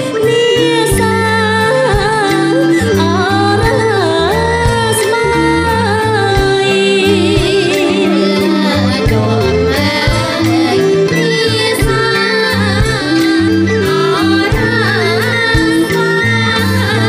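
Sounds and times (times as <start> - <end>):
live band with drums and bass: 0.0 - 17.0
woman singing with vibrato: 0.0 - 17.0.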